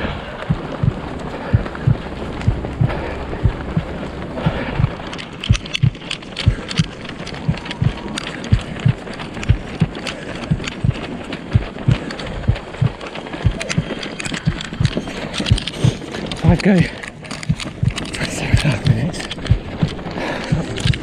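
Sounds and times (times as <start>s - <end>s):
running footfalls on pavement: 0.0s - 21.0s.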